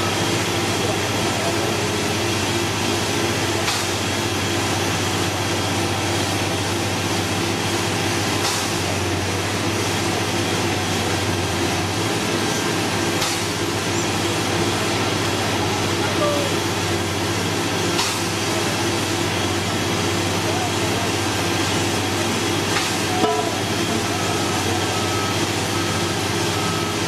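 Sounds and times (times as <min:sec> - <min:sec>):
drill rig diesel engine drone: 0:00.0 - 0:27.0.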